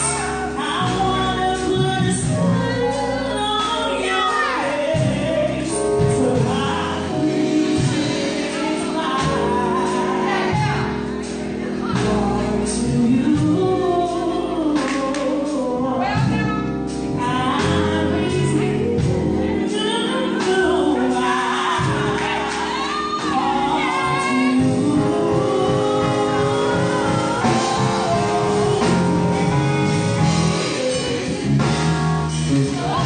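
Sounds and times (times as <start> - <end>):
gospel-style singing: 0.0 - 33.0
instrumental backing: 0.0 - 33.0.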